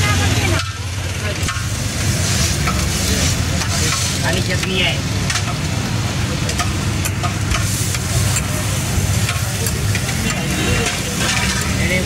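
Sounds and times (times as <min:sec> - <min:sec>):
food sizzling on a griddle: 0:00.0 - 0:12.0
traffic rumble: 0:00.0 - 0:12.0.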